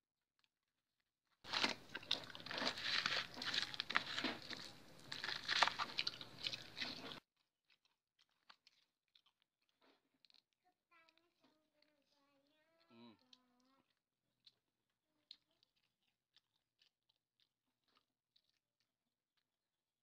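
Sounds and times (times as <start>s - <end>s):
crunchy chewing of fried chicken: 1.4s - 20.0s.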